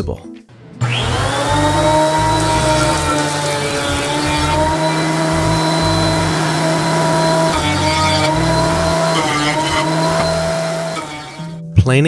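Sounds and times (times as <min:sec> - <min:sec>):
thickness planer planing wood: 0:00.6 - 0:11.6.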